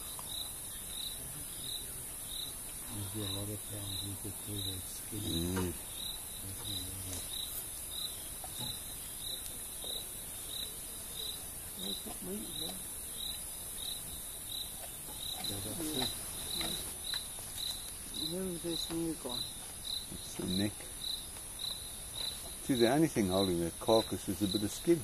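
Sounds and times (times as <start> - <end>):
cricket chirping: 0.0 - 25.0
steady high hiss: 0.0 - 25.0.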